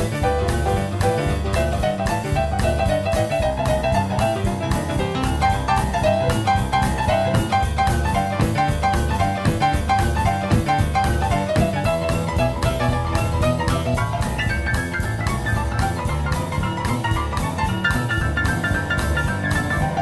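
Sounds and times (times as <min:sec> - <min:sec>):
jazzy piano music: 0:00.0 - 0:20.0
steady drum beat: 0:00.0 - 0:20.0.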